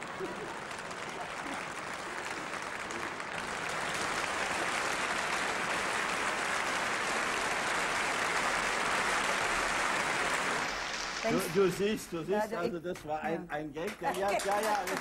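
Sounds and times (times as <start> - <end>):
audience applauding: 0.0 - 12.3, 13.8 - 15.0.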